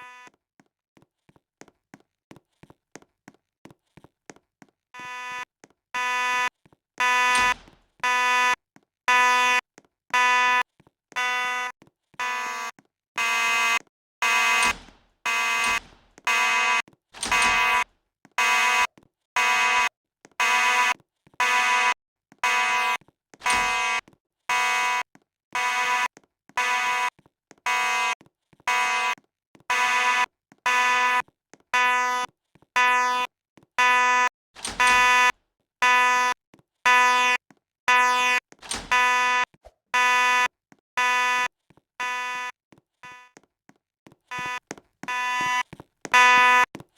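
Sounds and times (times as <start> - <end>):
fire alarm buzzing: 0.0 - 0.3, 5.0 - 31.2, 31.8 - 43.4, 44.3 - 46.7.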